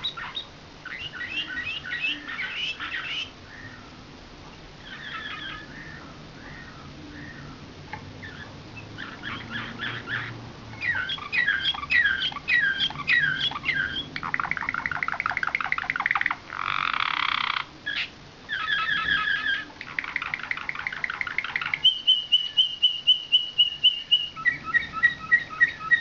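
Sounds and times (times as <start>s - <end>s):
canary singing: 0.0s - 4.0s, 4.8s - 26.0s.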